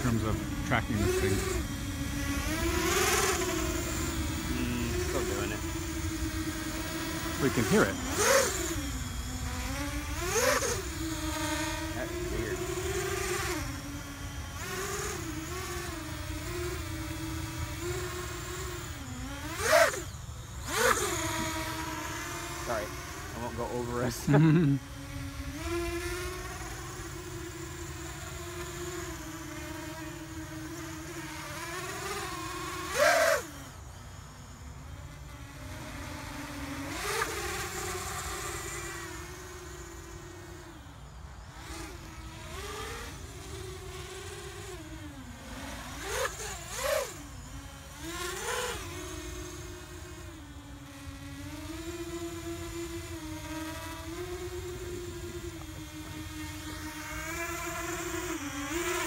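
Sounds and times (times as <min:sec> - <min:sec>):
drone propellers whining: 0:00.0 - 0:59.0.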